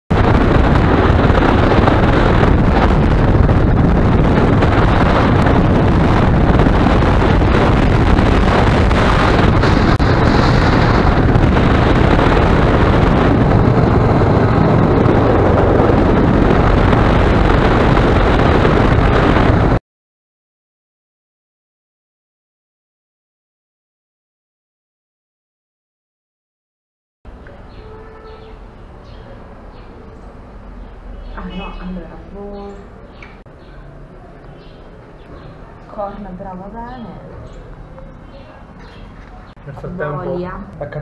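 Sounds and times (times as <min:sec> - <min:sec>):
wind noise on microphone: 0:00.1 - 0:19.8, 0:27.3 - 0:41.0.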